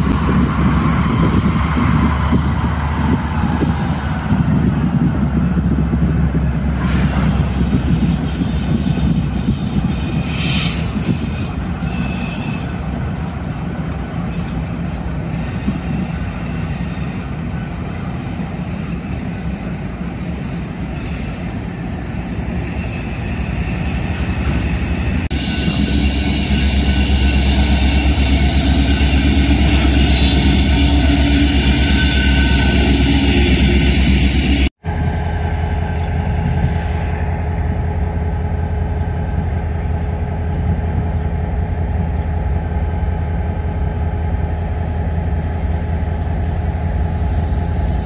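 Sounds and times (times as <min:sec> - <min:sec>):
diesel locomotives rumbling: 0:00.0 - 0:48.0
freight train rolling past: 0:00.0 - 0:48.0
train wheels squealing: 0:06.8 - 0:17.7, 0:18.3 - 0:48.0.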